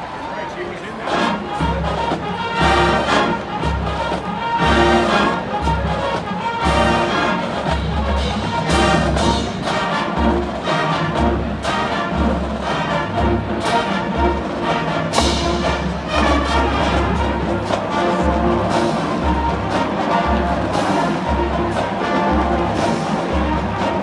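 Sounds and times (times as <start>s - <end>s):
marching band playing: 0.8s - 24.0s.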